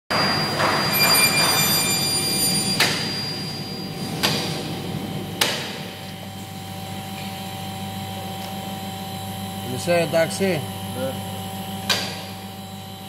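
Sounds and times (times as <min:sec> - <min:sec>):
machine hum: 0:00.1 - 0:13.0.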